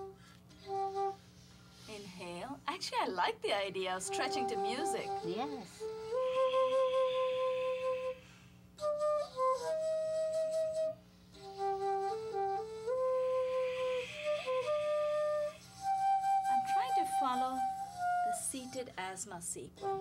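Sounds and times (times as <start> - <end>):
flute playing slow melody: 0.0 - 1.9, 4.0 - 18.9, 19.8 - 20.0.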